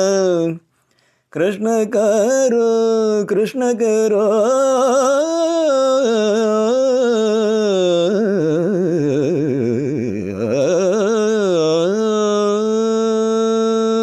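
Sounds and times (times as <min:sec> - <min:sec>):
person singing: 0:00.0 - 0:00.7, 0:01.4 - 0:14.0.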